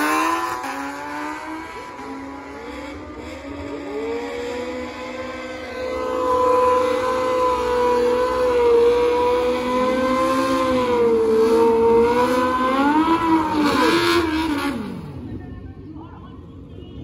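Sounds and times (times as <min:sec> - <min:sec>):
race car engine at high revs: 0:00.0 - 0:15.4.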